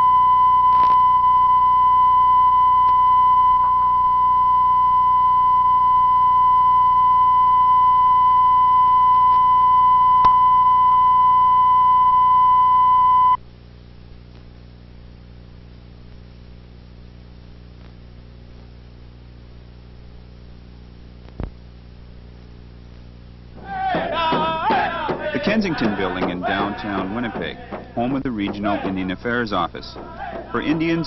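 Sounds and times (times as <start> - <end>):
faint low hum and hiss: 0.0 - 31.0.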